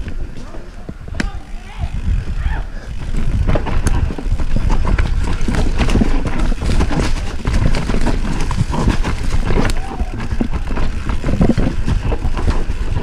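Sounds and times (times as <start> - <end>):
low rumble: 0.0 - 13.0
mountain bike rattling over rocks: 0.0 - 13.0.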